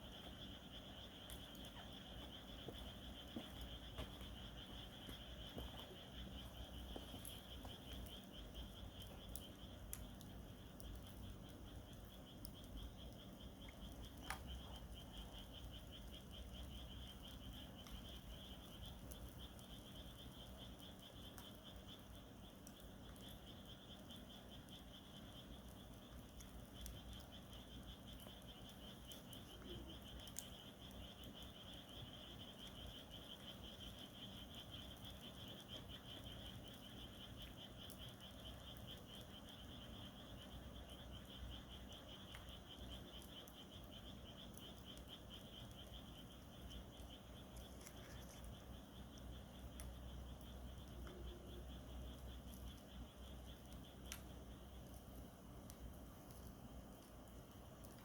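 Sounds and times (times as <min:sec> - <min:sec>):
campfire crackling pops: 0:00.0 - 0:58.0
insects trilling: 0:00.0 - 0:58.0.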